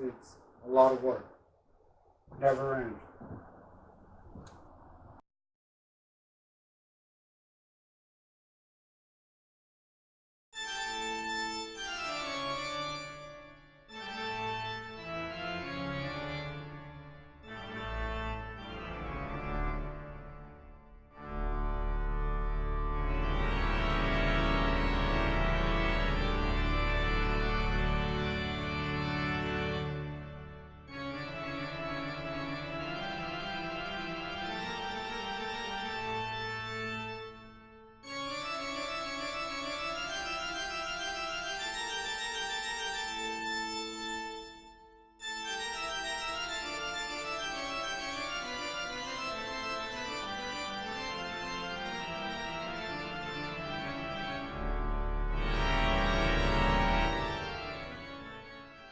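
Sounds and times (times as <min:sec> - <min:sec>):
organ-like sustained chords: 0:10.6 - 0:58.9.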